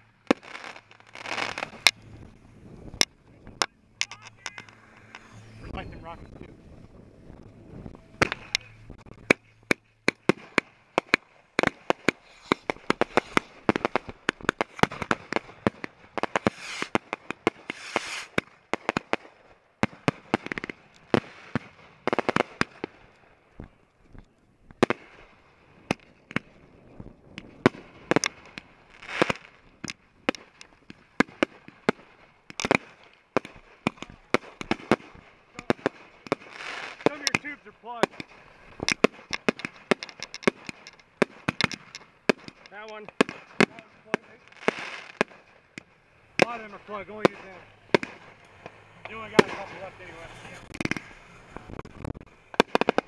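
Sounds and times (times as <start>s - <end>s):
fireworks cracking and popping: 0.0s - 53.0s.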